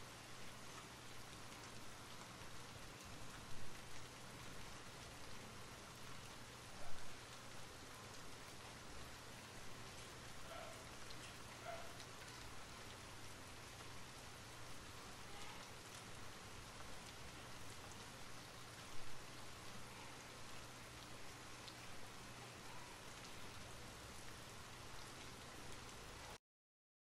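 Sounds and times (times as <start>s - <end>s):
steady rain falling: 0.0s - 26.4s.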